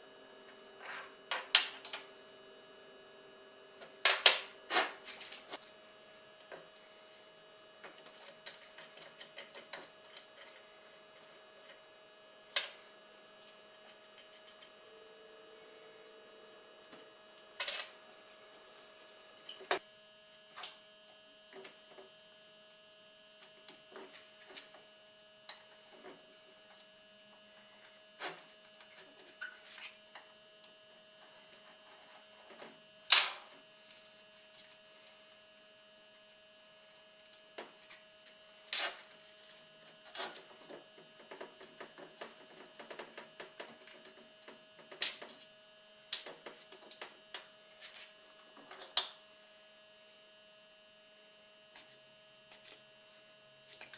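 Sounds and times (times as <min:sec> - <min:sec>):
steady electrical hum: 0:00.0 - 0:53.9.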